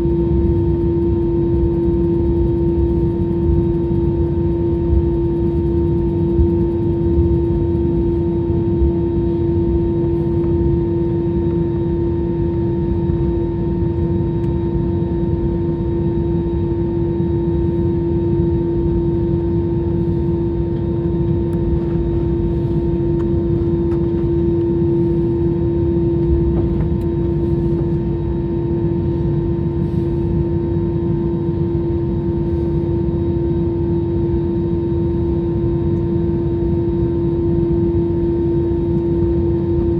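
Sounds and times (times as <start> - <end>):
constant hum: 0.0 - 39.9
jet engines in cabin: 0.0 - 39.9.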